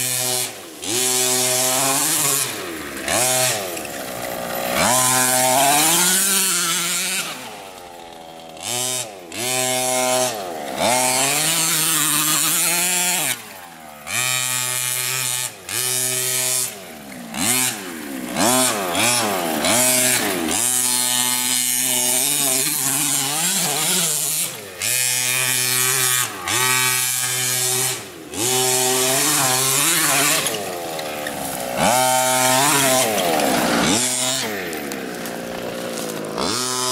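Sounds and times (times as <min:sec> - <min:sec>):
two-stroke engine revving: 0:00.0 - 0:36.9.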